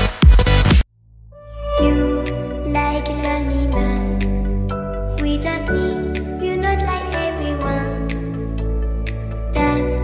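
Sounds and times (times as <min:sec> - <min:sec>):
soft instrumental music: 0:01.3 - 0:10.0.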